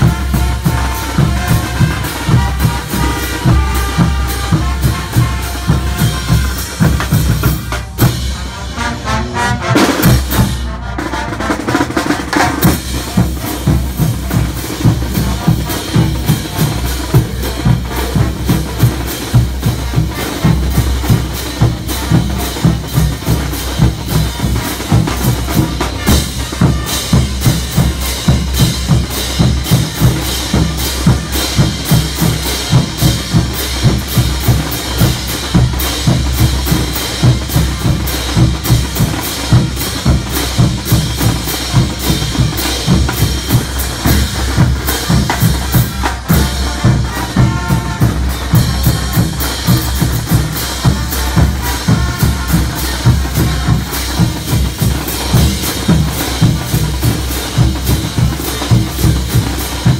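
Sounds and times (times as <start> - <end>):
bass drums: 0.0 - 10.8, 11.6 - 59.9
snare drums: 0.0 - 59.9.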